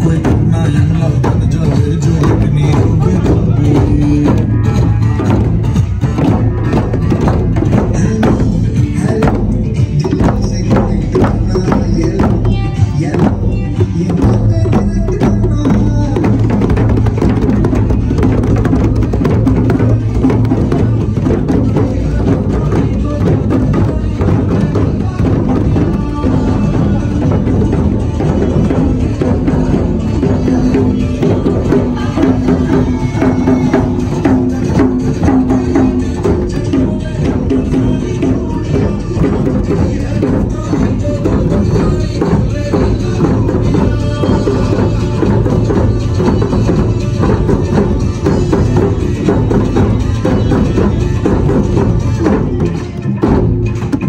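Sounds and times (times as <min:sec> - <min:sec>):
djembes struck with hands: 0:00.0 - 0:54.0
frame drum hit with beater: 0:00.0 - 0:54.0.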